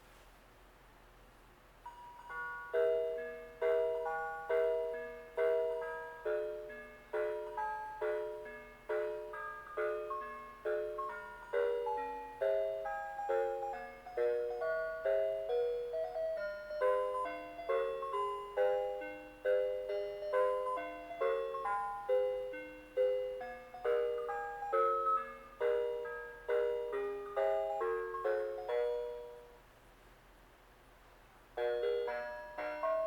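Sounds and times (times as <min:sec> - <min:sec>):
chime-like christmas tune: 0:01.8 - 0:29.6, 0:31.6 - 0:33.0.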